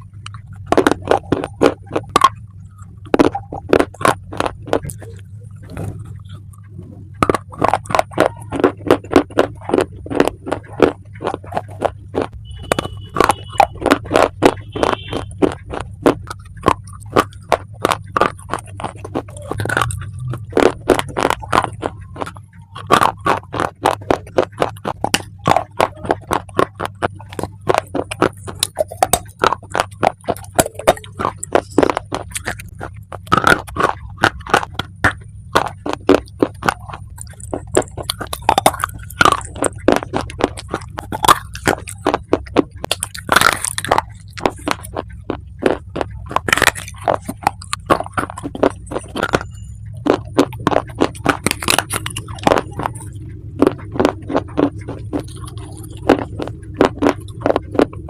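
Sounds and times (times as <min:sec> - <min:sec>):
clay being chewed crunching: 0:00.0 - 0:58.0
low steady hum: 0:00.0 - 0:58.0.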